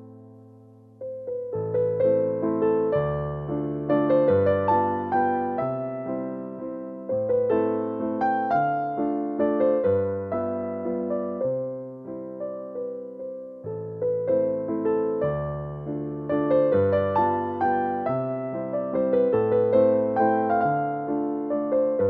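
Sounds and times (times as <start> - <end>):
piano notes and chords: 0.0 - 22.0.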